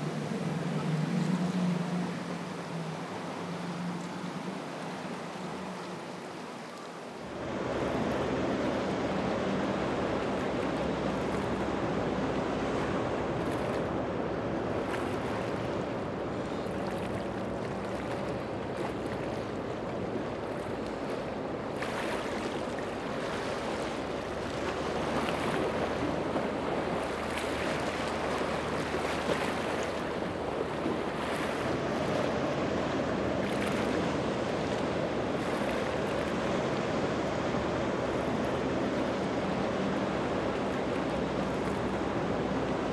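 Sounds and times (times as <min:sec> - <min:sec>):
boat engine drone: 0:00.0 - 0:42.9
water rushing from hull wake: 0:00.0 - 0:42.9.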